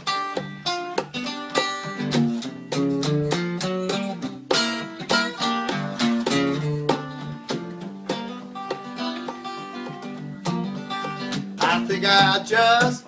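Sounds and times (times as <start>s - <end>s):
solo guitar plucked notes and chords: 0.0s - 13.0s.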